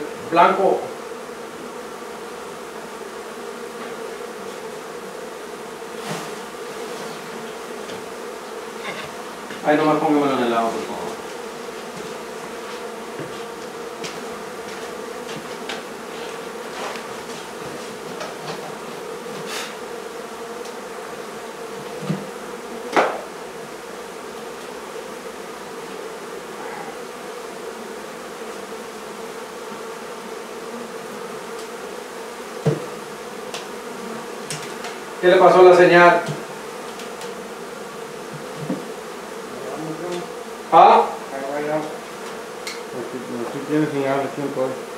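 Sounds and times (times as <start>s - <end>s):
honey bees buzzing: 0.0s - 44.9s.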